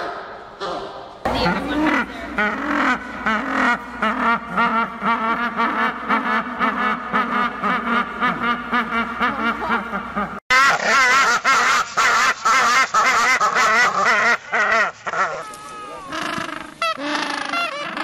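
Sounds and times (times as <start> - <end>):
penguins braying: 0.6 - 18.0.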